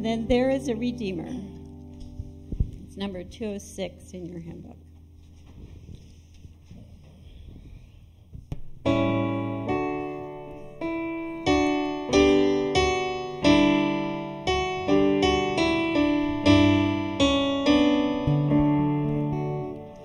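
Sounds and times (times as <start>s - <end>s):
electric piano chords: 0.0s - 6.2s, 8.6s - 20.0s.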